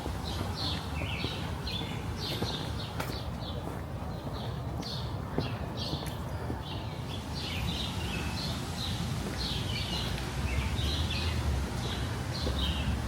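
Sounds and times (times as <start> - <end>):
low city rumble: 0.0 - 13.0
small birds chirping: 0.0 - 13.0.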